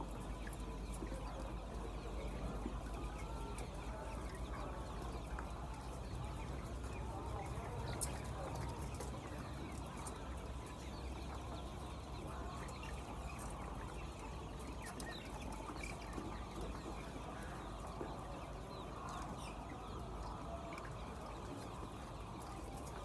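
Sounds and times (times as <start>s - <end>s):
hens clucking: 0.0s - 23.0s.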